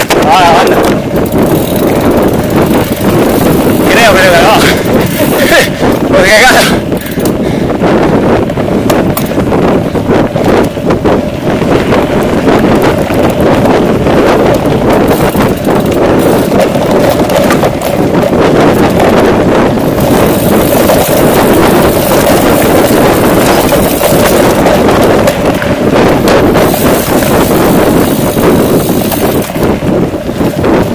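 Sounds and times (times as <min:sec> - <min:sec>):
bike knocks and rattles: 0:00.0 - 0:30.9
wind rushing over microphone: 0:00.0 - 0:30.9.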